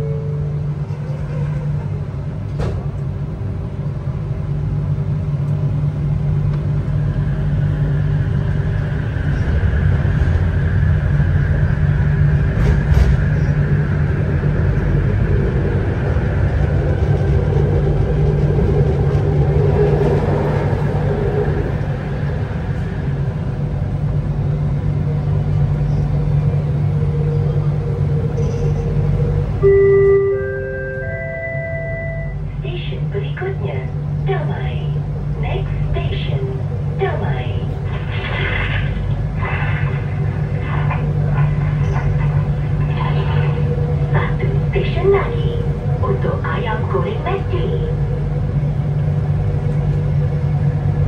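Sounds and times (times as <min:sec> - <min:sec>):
train hum and rumble: 0:00.0 - 0:51.0.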